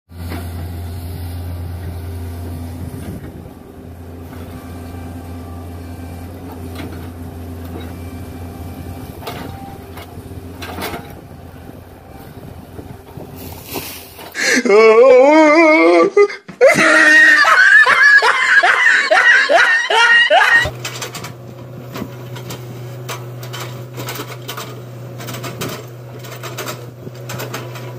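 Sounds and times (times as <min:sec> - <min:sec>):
excavator diesel engine running: 0:00.1 - 0:15.5, 0:16.5 - 0:27.9.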